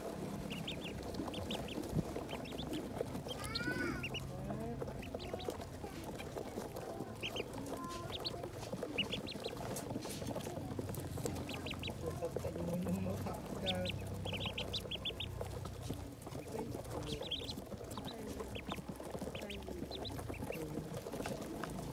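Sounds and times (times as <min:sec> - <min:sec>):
ducklings peeping: 0:00.0 - 0:21.9.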